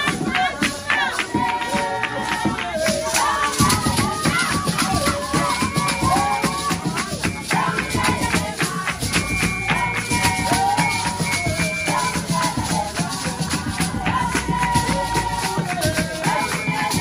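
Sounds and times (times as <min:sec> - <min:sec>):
girls singing in unison: 0:00.0 - 0:17.0
rhythmic hand-clapping: 0:00.0 - 0:17.0.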